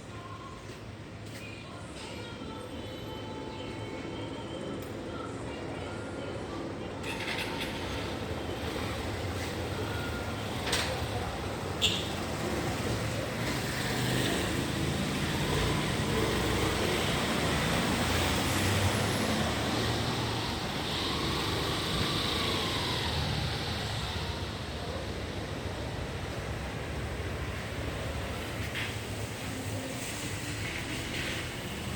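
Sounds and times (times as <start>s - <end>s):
traffic noise: 0.0s - 31.9s.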